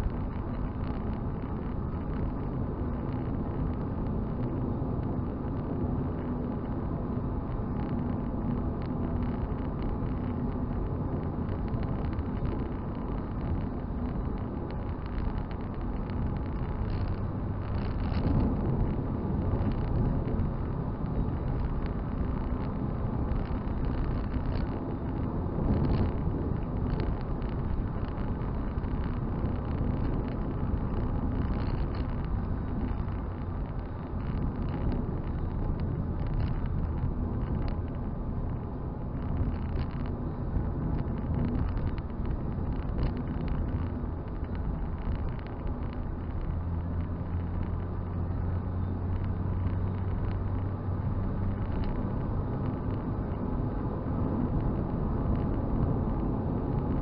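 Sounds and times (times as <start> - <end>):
car engine drone: 0.0 - 57.0
tyre and road rumble: 0.0 - 57.0.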